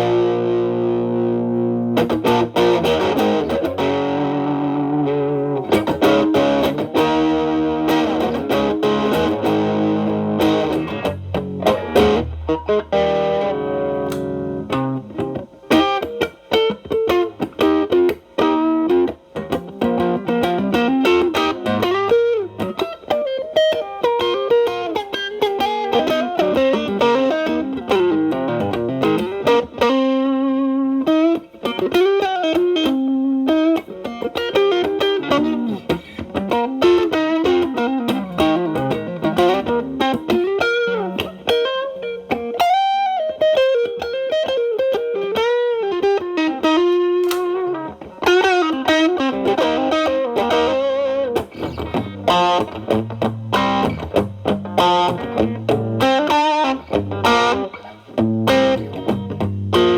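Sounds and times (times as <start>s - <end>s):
clean electric guitar blues licks: 0.0s - 59.9s
distorted electric guitar chords: 0.0s - 59.9s.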